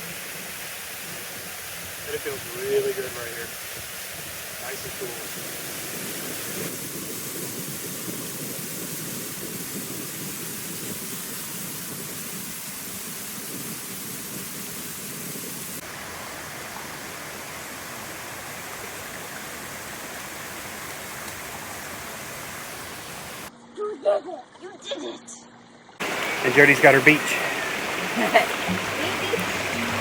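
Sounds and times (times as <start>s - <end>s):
waterfall rushing: 0.0s - 23.5s, 26.0s - 30.0s.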